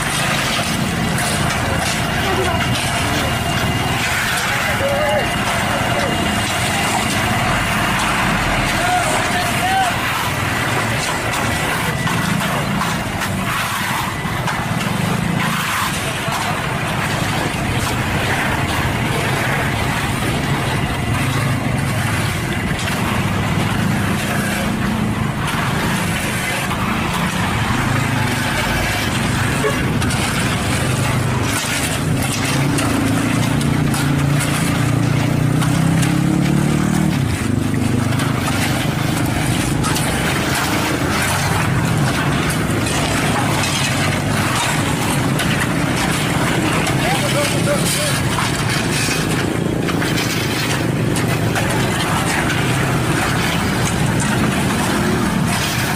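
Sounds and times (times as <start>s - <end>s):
truck diesel engine running: 0.0s - 55.9s.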